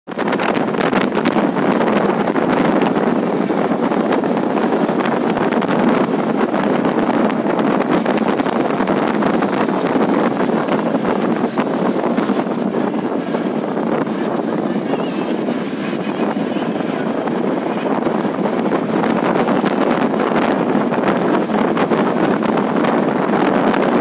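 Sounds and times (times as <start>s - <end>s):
wind and road noise: 0.0s - 24.0s
wind buffeting microphone: 0.1s - 24.0s.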